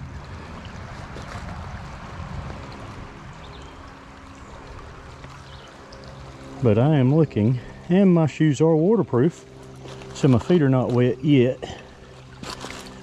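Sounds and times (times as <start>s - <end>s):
creek running over pebbles: 0.0s - 13.0s.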